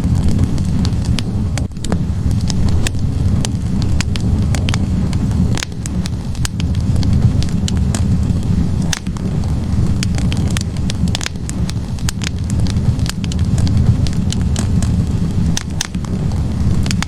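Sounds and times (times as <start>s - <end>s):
burning wood crackling: 0.0s - 17.0s
fire rumbling: 0.0s - 17.0s.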